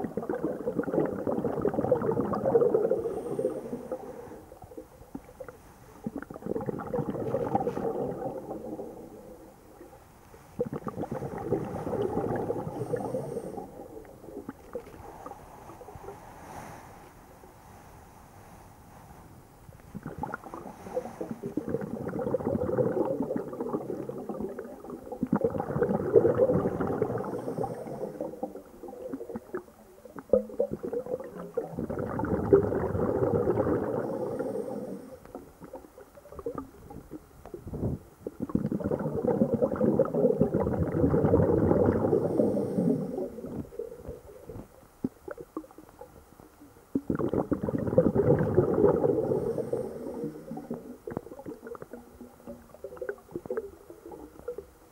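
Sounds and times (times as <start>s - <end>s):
underwater exhaled air bubbles: 0.0s - 16.8s, 19.8s - 54.9s.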